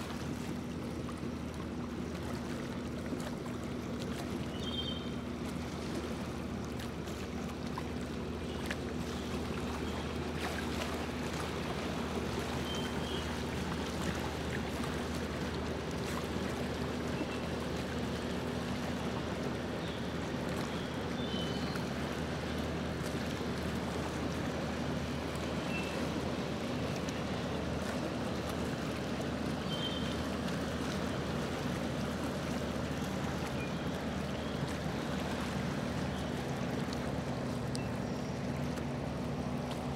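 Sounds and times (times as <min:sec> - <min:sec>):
boat motor hum: 0:00.0 - 0:39.9
water washing along hull: 0:00.0 - 0:39.9.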